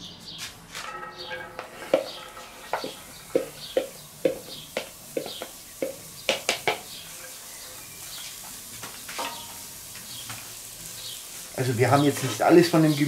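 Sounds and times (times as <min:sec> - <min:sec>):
spatula stirring in pan: 0:00.8 - 0:11.6
vegetables sizzling in pan: 0:00.8 - 0:13.0.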